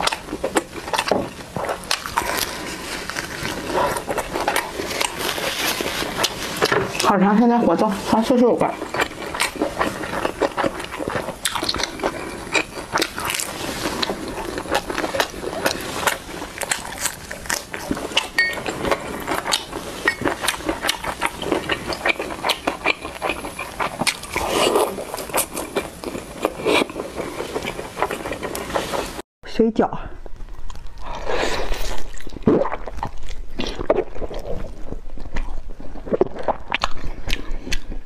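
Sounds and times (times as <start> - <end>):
person chewing: 0.0 - 7.2, 8.0 - 29.2, 30.3 - 38.0.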